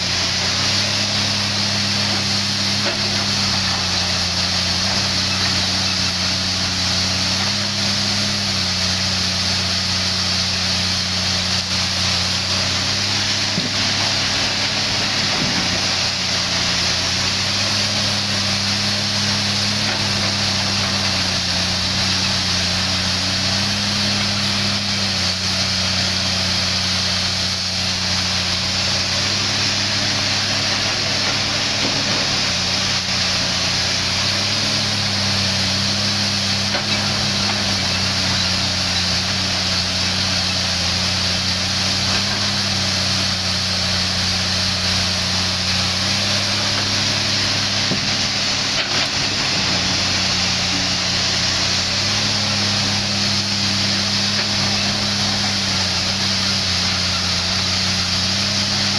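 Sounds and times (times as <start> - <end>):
excavator diesel engine working: 0.0 - 58.9
steady hiss: 0.0 - 58.9.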